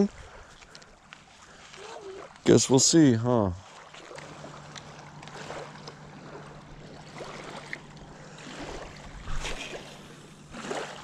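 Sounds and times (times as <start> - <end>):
steady low hum: 0.0 - 11.0
small waves lapping on rocks: 1.6 - 11.0.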